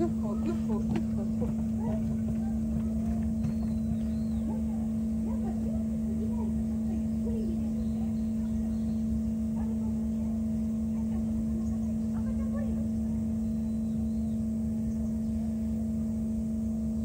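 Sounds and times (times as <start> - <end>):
faint distant voices: 0.0 - 15.9
machinery hum: 0.0 - 17.0.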